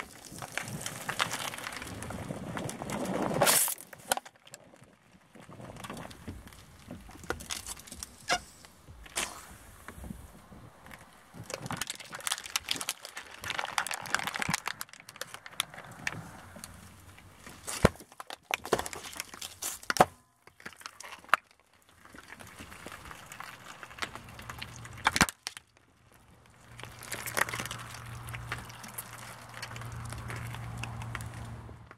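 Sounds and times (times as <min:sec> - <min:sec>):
plastic crackling and crunching: 0:00.0 - 0:31.9.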